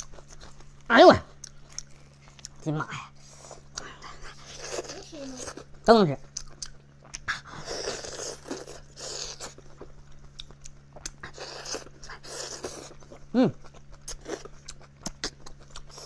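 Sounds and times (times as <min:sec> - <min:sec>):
chewing and slurping: 0:00.0 - 0:16.0
faint low hum: 0:00.0 - 0:16.0.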